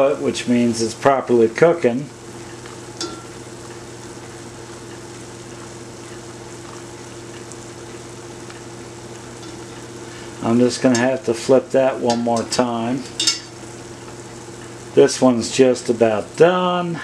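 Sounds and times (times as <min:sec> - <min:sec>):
low steady hum: 0:00.0 - 0:17.0
oil sizzling: 0:00.0 - 0:17.0.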